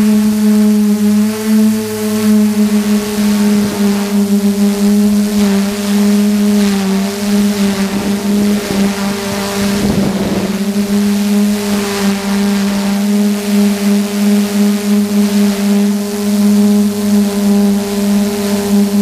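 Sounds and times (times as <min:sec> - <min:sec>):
drone propellers humming: 0:00.0 - 0:19.0
rush of wind noise: 0:00.1 - 0:19.0.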